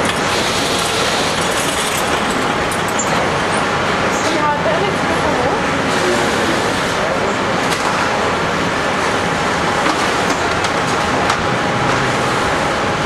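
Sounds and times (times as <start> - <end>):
dense steady noise wash: 0.0 - 13.0.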